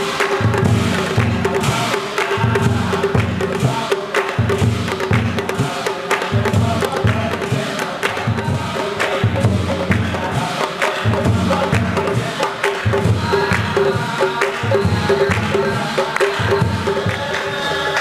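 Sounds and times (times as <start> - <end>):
hand claps: 0.0 - 6.4, 9.0 - 18.0.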